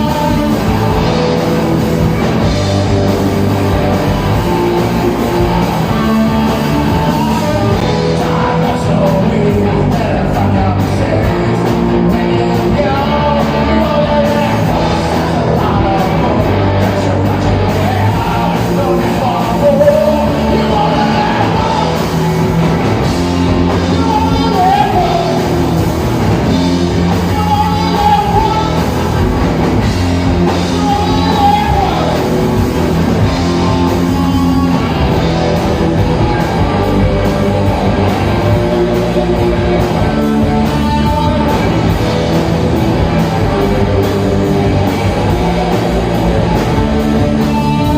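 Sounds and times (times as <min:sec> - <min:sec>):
person singing lead vocal: 0:00.0 - 0:01.3, 0:04.1 - 0:22.6, 0:23.5 - 0:32.6, 0:33.2 - 0:42.2, 0:43.0 - 0:47.9
live rock band playing: 0:00.0 - 0:47.9.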